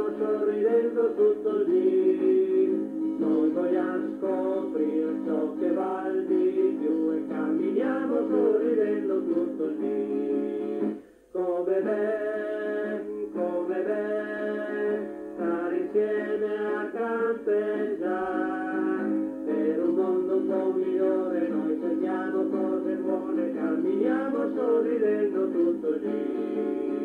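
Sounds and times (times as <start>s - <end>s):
camp song with singing: 0.0s - 27.0s.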